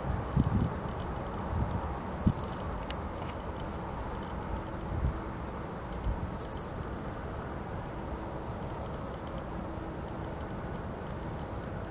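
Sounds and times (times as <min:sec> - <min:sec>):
insects buzzing: 0:00.0 - 0:11.9.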